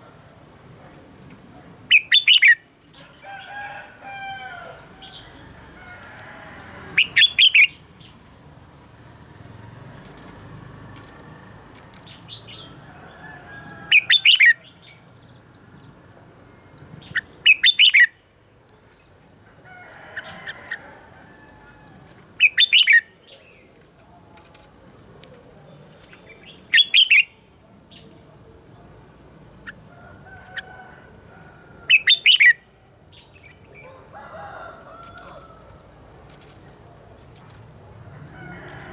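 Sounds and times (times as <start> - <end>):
bird song phrases: 0.0 - 38.9.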